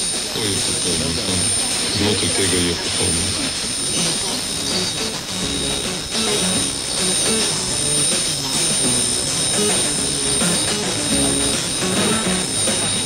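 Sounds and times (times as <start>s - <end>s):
high whistling tones: 0.0s - 13.0s.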